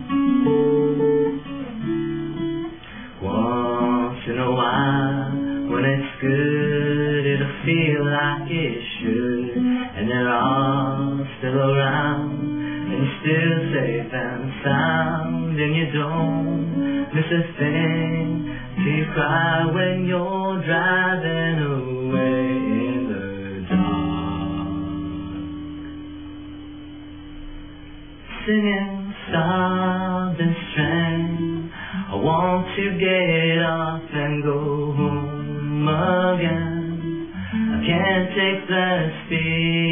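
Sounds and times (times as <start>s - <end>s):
acoustic guitar strumming: 0.0s - 39.9s
man singing: 3.0s - 25.3s, 28.3s - 39.9s.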